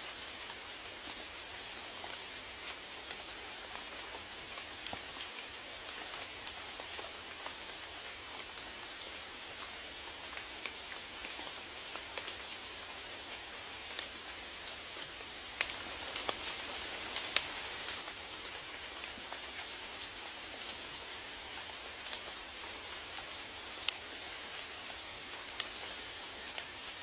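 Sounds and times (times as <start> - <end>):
raindrops ticking on a surface: 0.0 - 27.0
rainfall hiss: 0.0 - 27.0.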